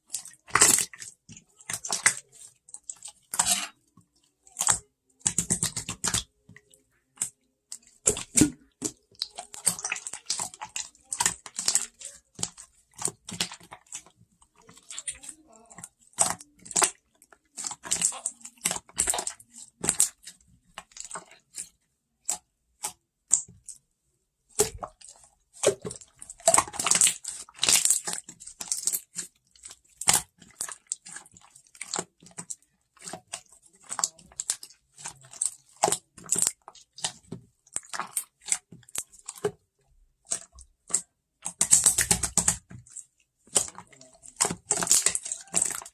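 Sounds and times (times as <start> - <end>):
slime squished by hand: 0.0 - 3.8, 4.5 - 6.4, 7.2 - 23.8, 24.5 - 39.6, 40.2 - 45.9.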